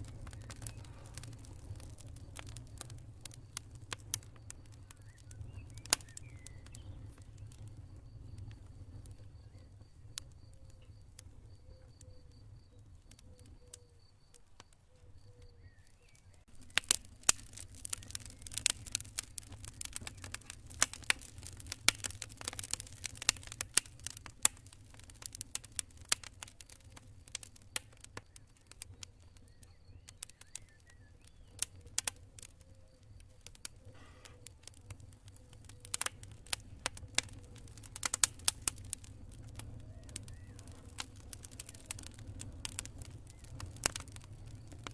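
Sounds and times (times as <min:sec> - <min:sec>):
campfire crackling: 0:00.0 - 0:44.9
cricket chirping: 0:00.0 - 0:44.9.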